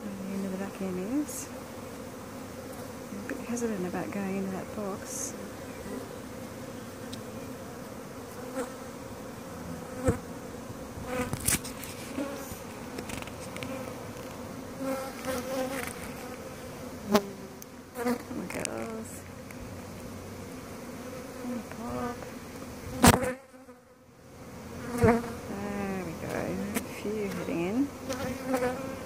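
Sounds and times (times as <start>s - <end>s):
bee buzzing close by: 0.0s - 29.0s
bees buzzing: 0.0s - 29.0s.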